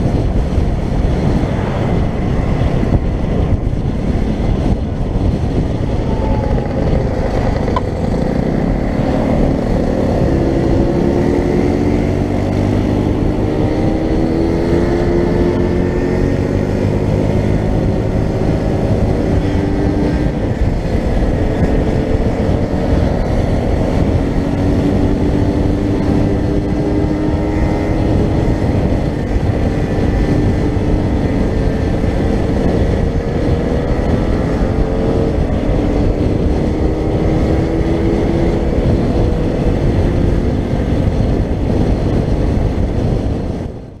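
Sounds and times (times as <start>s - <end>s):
wind rumble on microphone: 0.0s - 44.0s
scooter engine running: 4.5s - 43.2s.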